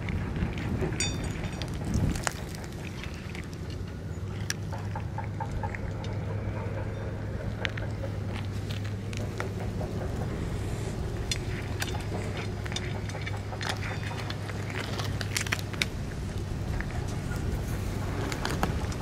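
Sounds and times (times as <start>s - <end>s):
cat chewing and licking: 0.0s - 19.0s
steady low hum: 0.0s - 19.0s.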